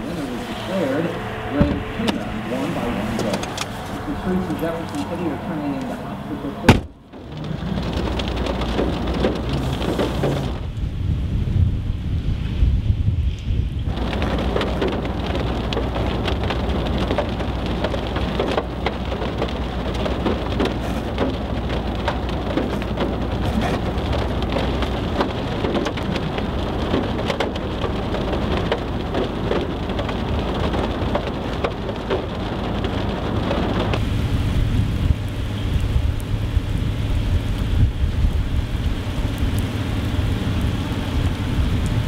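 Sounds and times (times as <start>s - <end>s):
rain pattering on car roof: 0.0s - 12.4s, 13.4s - 42.0s
low steady rumble: 0.0s - 42.0s.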